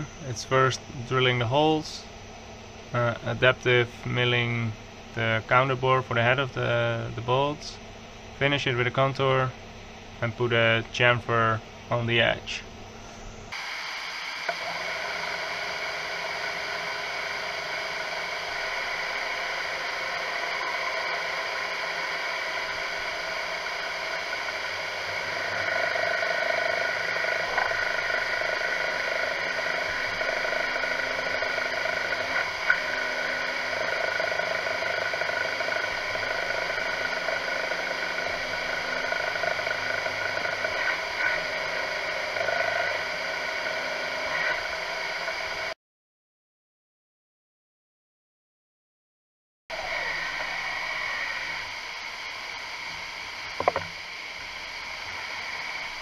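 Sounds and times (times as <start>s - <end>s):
milling machine spindle whine: 0.0s - 12.8s, 13.4s - 45.8s, 49.7s - 56.0s.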